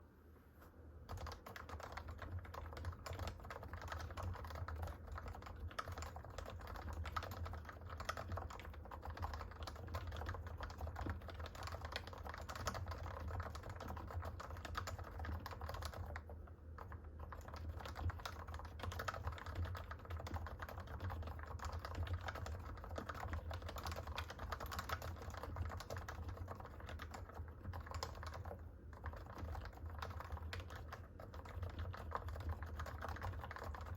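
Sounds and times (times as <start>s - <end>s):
fast keyboard typing: 1.1s - 33.9s.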